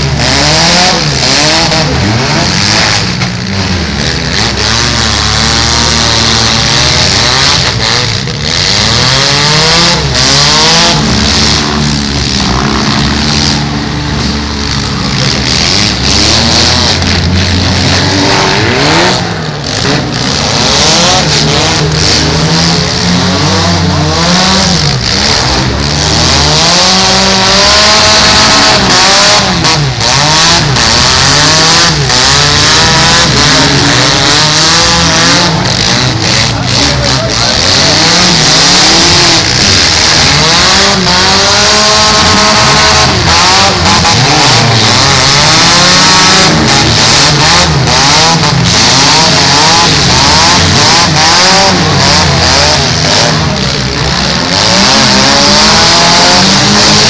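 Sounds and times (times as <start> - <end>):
car engines revving hard: 0.0 - 57.0
cars ramming each other: 0.0 - 57.0.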